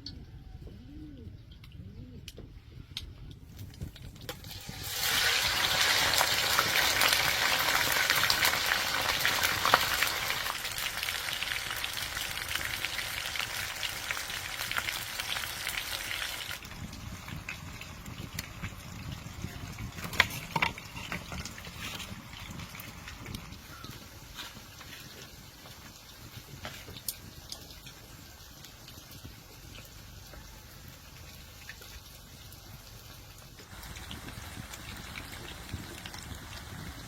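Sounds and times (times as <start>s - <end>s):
food sizzling in hot oil: 4.2s - 37.0s.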